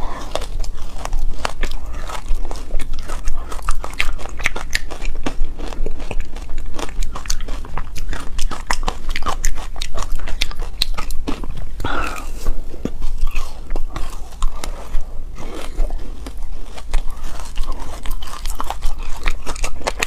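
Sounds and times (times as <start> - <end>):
chewing crunchy ice: 0.0 - 20.0.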